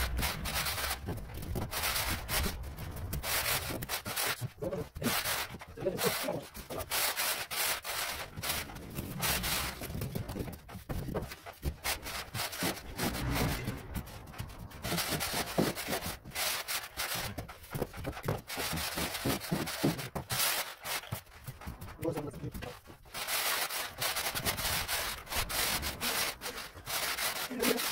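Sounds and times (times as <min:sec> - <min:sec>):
straightedge scraping screed: 0:00.0 - 0:17.8, 0:23.1 - 0:27.9
trowel scraping and patting: 0:00.0 - 0:27.9.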